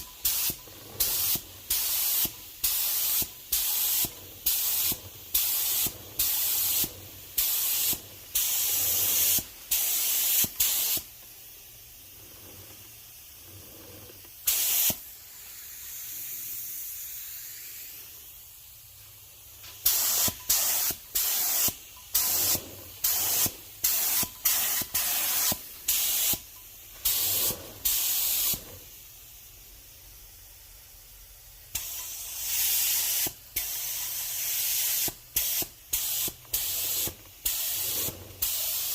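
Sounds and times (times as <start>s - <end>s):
spray paint hissing: 0.0s - 30.7s, 31.6s - 38.9s.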